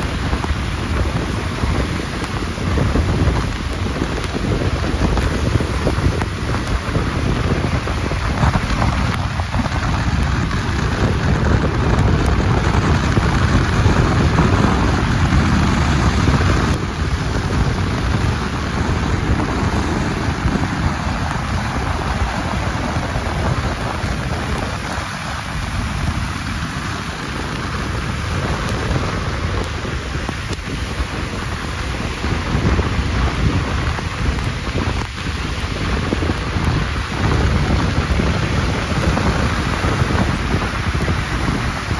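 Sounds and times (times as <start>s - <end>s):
car tyres on wet slushy road: 0.0s - 41.9s
wind: 0.0s - 41.9s.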